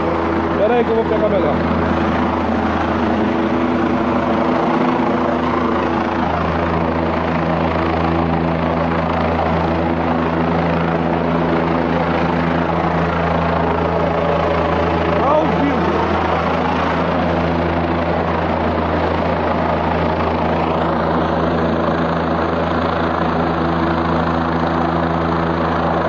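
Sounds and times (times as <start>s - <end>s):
helicopter rotor and engine drone: 0.0s - 26.0s.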